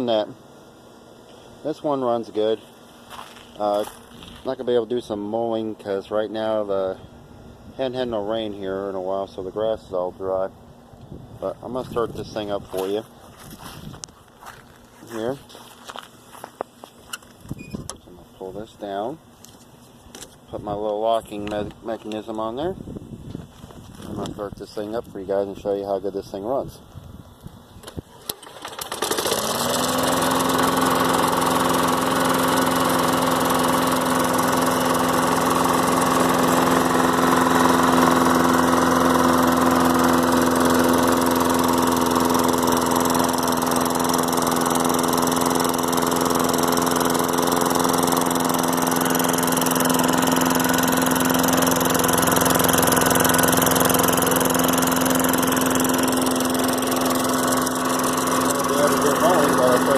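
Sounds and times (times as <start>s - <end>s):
lawn mower engine starting and running: 0.0s - 26.7s, 27.3s - 59.9s.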